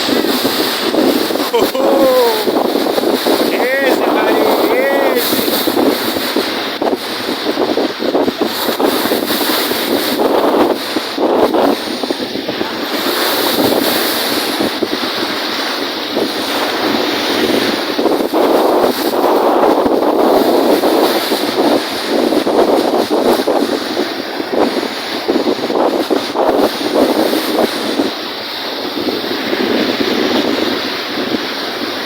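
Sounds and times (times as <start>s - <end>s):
lake waves washing in: 0.0s - 32.0s.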